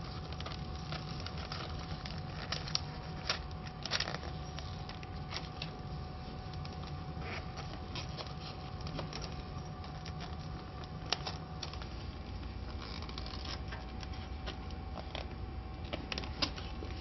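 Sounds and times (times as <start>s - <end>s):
plastic film rustling and crinkling: 0.0s - 17.0s
steady hum: 0.0s - 17.0s.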